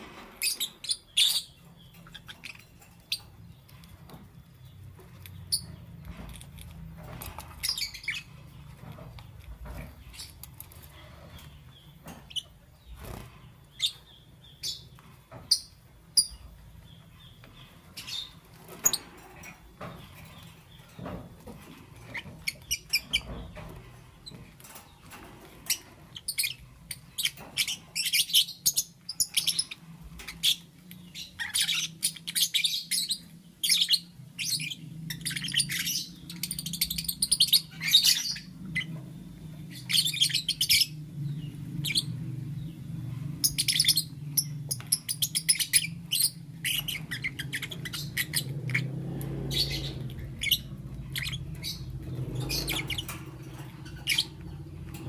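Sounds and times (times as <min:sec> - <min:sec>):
lovebirds chirping: 0:00.0 - 0:55.0
low steady hum: 0:01.4 - 0:55.0.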